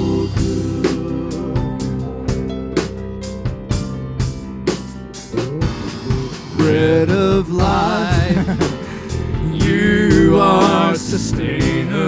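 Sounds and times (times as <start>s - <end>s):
drum kit beat: 0.0s - 12.0s
guitar and bass chords: 0.0s - 12.0s.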